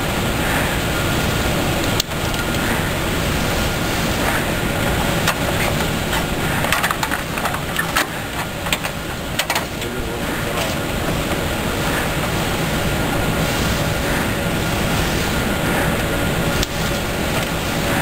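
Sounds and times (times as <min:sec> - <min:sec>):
factory machinery hum: 0:00.0 - 0:18.0.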